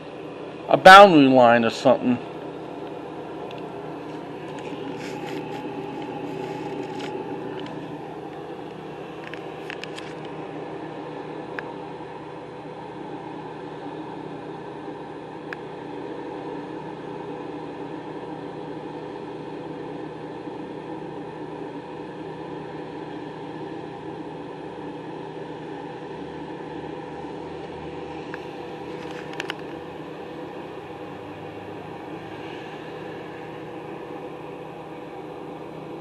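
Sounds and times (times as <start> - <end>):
machine humming: 0.0 - 36.0.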